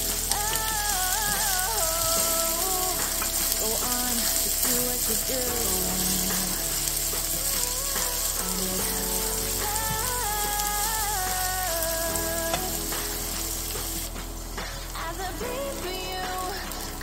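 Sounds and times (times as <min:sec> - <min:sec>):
spatula stirring in wok: 0:00.0 - 0:15.2
background music with melody: 0:00.0 - 0:17.0
onions sizzling in oil: 0:00.0 - 0:17.0.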